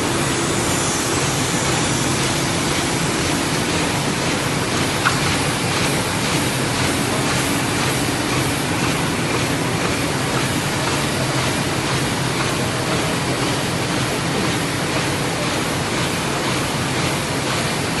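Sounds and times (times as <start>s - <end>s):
printing press running: 0.0s - 18.0s.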